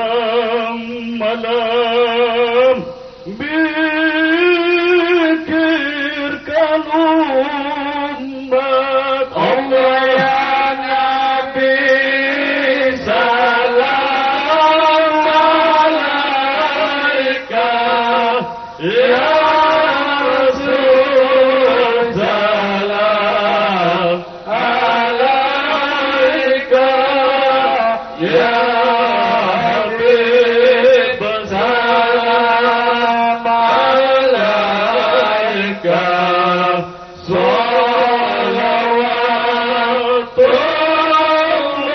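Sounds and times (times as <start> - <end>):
man chanting into microphone: 0.0 - 41.9.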